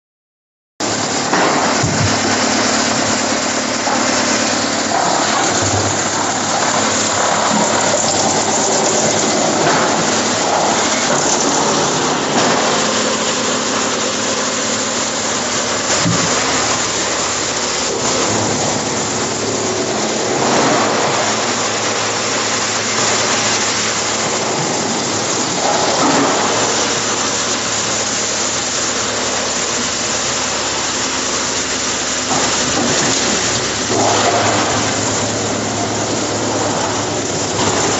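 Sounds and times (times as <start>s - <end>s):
engine hum: 0.8s - 37.9s
wood chipper chipping wood: 0.8s - 37.9s.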